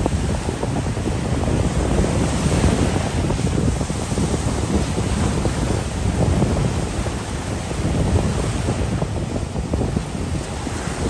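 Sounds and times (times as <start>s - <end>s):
surf waves breaking on beach: 0.0s - 11.0s
wind buffeting microphone: 0.0s - 11.0s.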